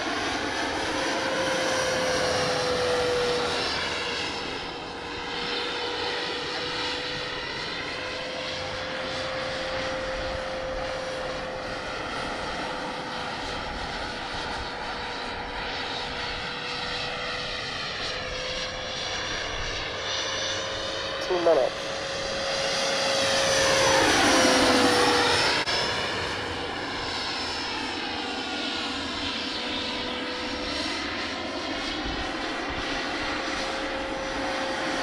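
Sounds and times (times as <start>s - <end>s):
model helicopter droning whine: 0.0s - 35.0s.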